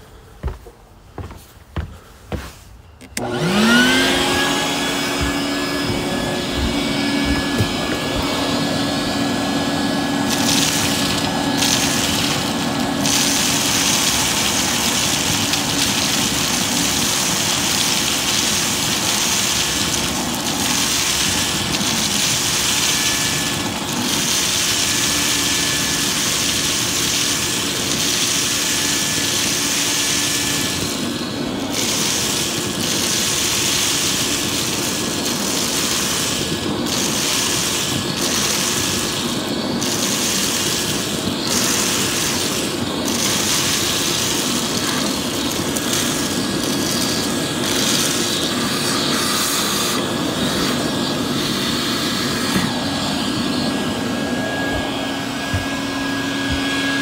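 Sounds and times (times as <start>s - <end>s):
vacuum cleaner sucking: 1.2s - 57.0s.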